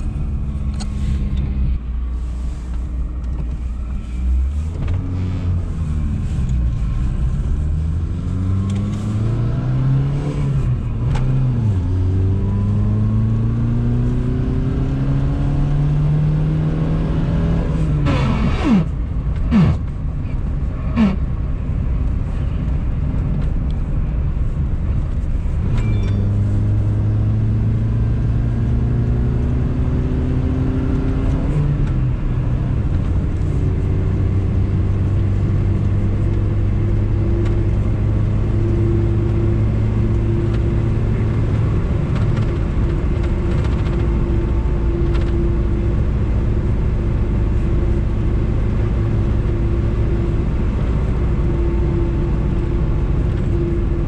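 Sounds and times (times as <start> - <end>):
car engine from inside: 0.0 - 54.0
road noise: 0.0 - 54.0.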